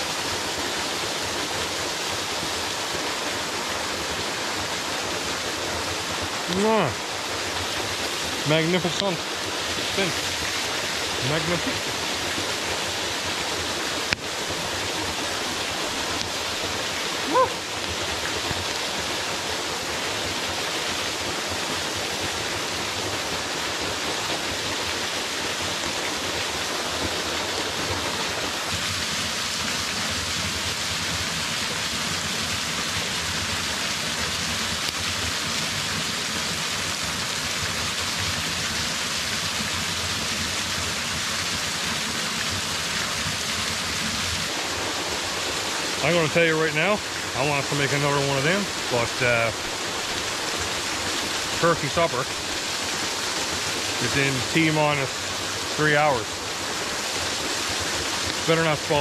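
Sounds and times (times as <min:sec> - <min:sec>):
waterfall and stream rushing: 0:00.0 - 0:59.0.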